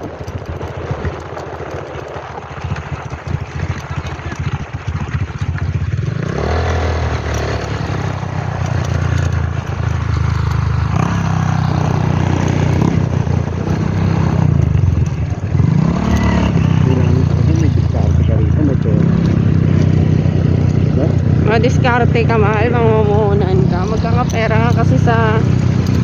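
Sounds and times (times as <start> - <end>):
rattling and scraping: 0.0 - 26.0
vehicle engine running: 0.0 - 26.0.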